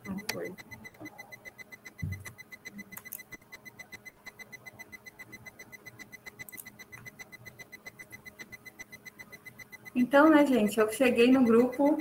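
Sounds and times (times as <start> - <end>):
rapid electronic ticking: 0.0 - 12.0.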